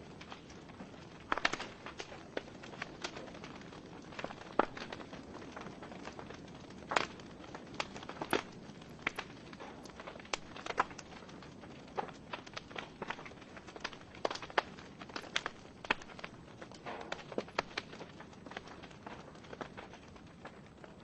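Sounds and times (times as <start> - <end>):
burning logs popping and snapping: 0.0 - 21.0
soft hiss of flames: 0.0 - 21.0.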